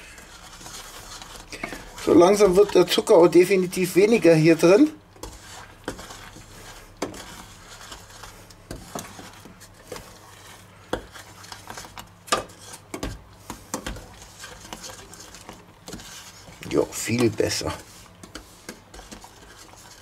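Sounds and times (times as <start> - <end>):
spoon stirring thick mixture: 0.0 - 20.0
spoon scraping and knocking pot: 0.2 - 4.4, 5.2 - 20.0.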